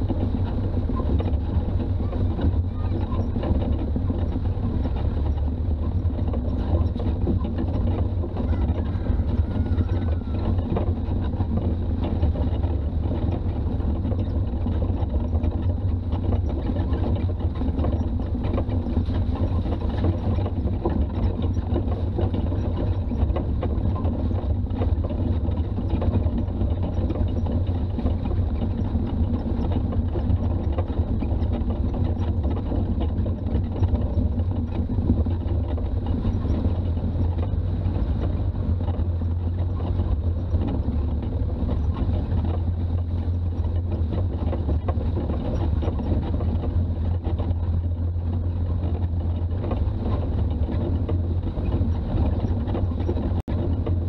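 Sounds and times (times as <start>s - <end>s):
diesel engine droning: 0.0s - 54.0s
road noise: 0.0s - 54.0s.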